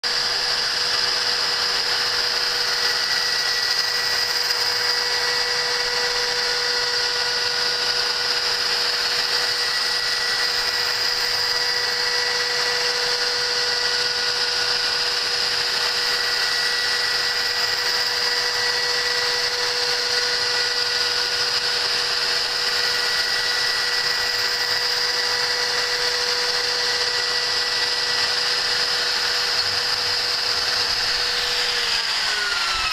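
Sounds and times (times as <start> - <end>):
machine spindle whine: 0.0 - 32.9.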